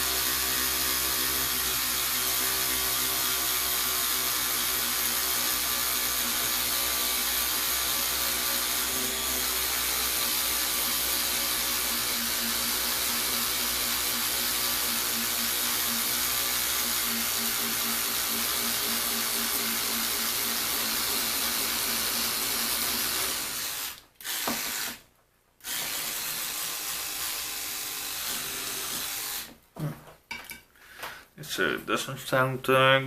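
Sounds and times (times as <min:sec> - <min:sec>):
electric toothbrush motor buzzing: 0:00.0 - 0:25.0, 0:25.6 - 0:29.5.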